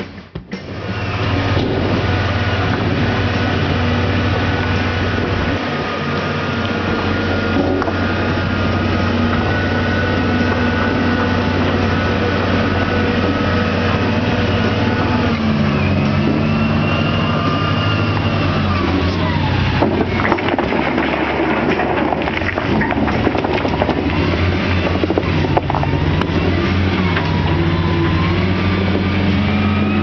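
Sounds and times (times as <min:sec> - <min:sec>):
diesel engine running: 0:00.0 - 0:30.0
high engine whine: 0:00.0 - 0:30.0.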